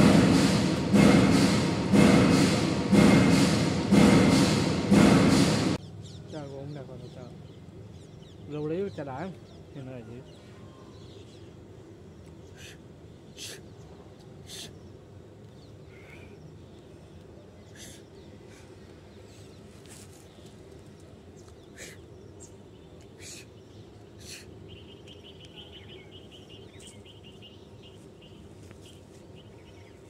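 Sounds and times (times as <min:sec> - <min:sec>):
low background hum: 0:00.0 - 0:30.0
birds calling: 0:05.8 - 0:30.0.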